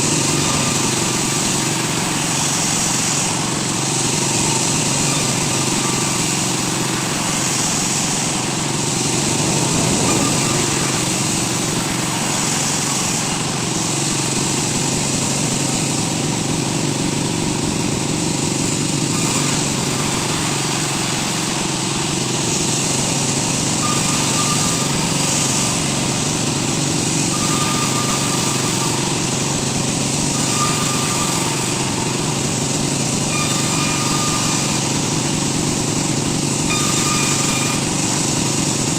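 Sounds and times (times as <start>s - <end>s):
woodworking machine running: 0.0s - 38.9s.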